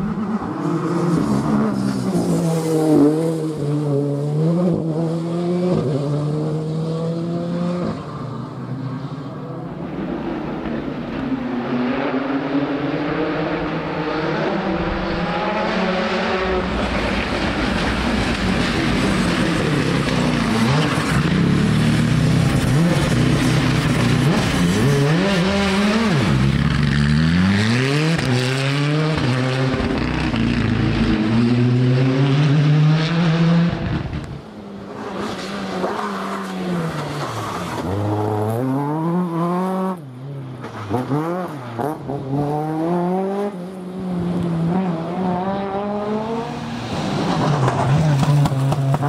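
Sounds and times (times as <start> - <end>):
rally car engine revving: 0.0 - 8.1, 9.8 - 49.0.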